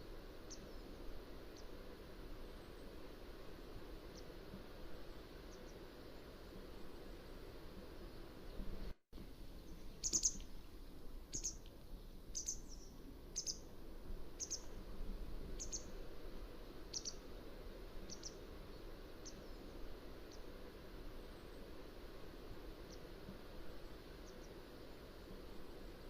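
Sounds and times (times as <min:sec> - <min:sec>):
low background hiss: 0:00.0 - 0:26.0.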